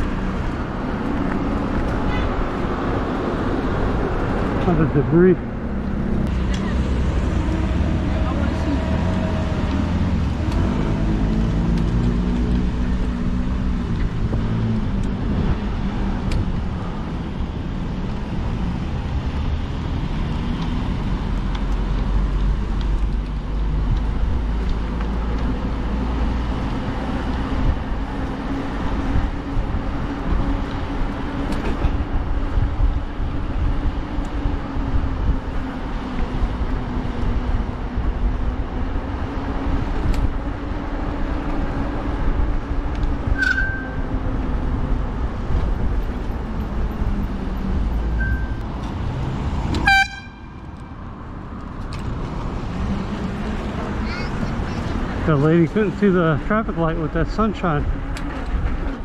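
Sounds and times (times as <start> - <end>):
cars passing: 0.0 - 59.0
steady low road rumble: 0.0 - 59.0.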